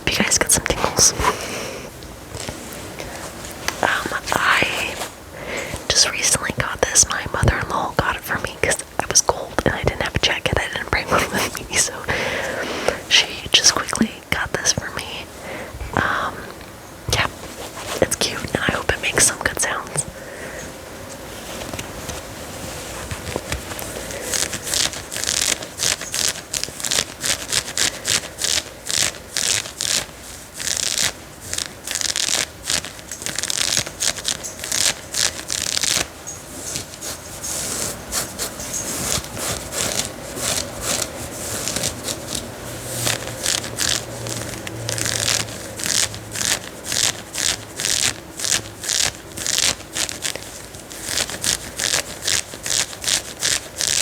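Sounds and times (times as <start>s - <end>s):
scratching on denim fabric: 0.0s - 54.0s.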